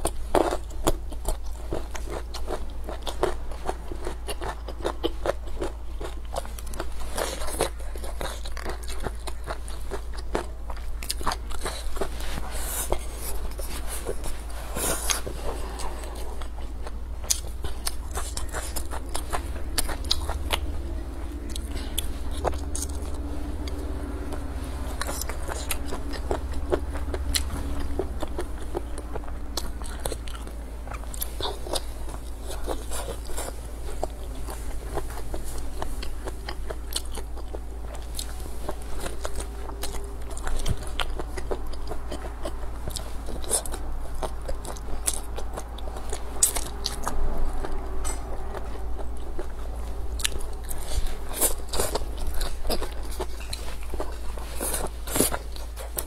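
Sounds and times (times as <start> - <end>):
close-up wet chewing: 0.0 - 56.0
steady low hum: 0.0 - 56.0.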